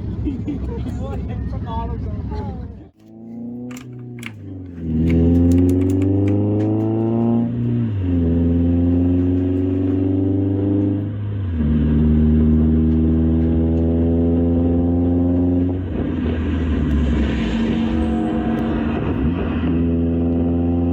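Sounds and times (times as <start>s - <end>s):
car engine under full throttle: 3.0s - 20.9s.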